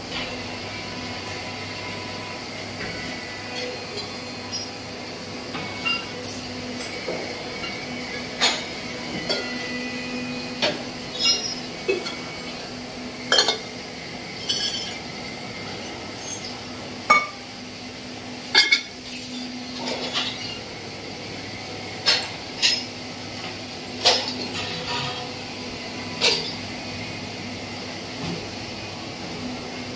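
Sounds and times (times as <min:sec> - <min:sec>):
hydraulic power pack humming: 0:00.0 - 0:29.9.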